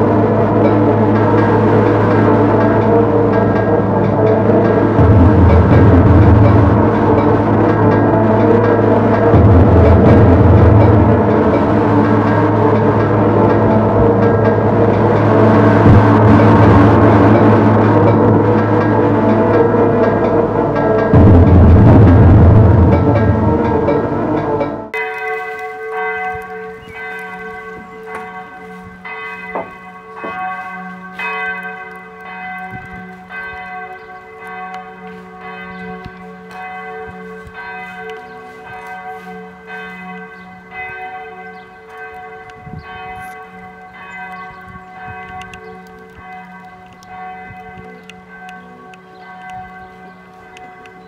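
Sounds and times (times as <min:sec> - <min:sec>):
large bells pealing: 0:00.0 - 0:51.0.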